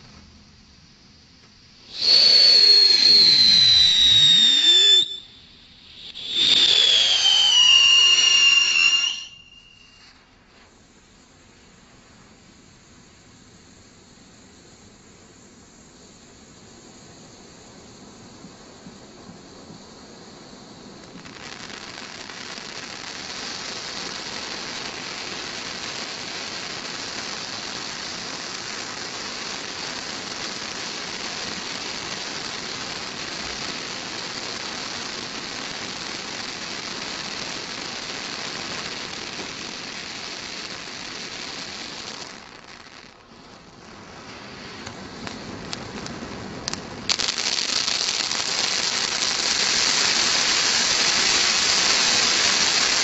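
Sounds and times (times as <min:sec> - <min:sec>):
firework fountain hissing: 0:00.0 - 0:53.0.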